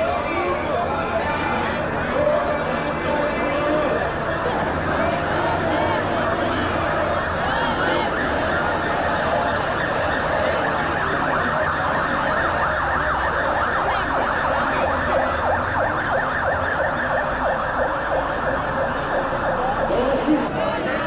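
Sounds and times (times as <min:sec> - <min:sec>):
siren yelping: 0:01.8 - 0:20.2.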